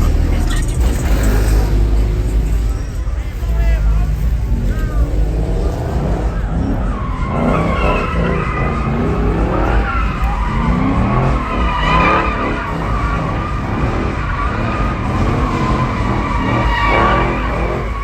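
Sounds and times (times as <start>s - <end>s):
car engine running: 0.0s - 18.0s
car tires squealing: 0.0s - 18.0s.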